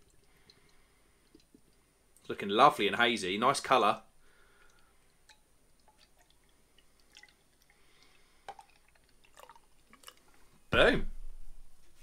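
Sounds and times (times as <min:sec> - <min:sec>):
beer dripping and trickling: 0:00.0 - 0:10.7.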